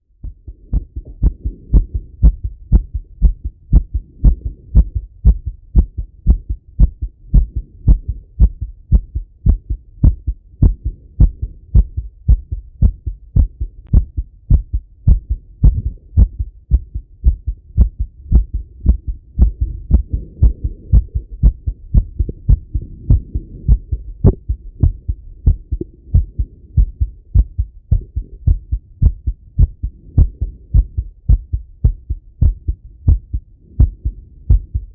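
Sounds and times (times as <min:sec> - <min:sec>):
heartbeat thumps: 0:00.1 - 0:34.9.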